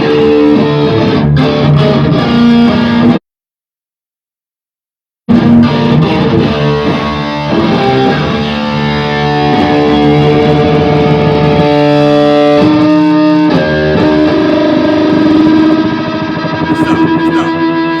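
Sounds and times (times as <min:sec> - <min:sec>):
electric guitar chords and notes: 0:00.0 - 0:03.2, 0:05.3 - 0:18.0.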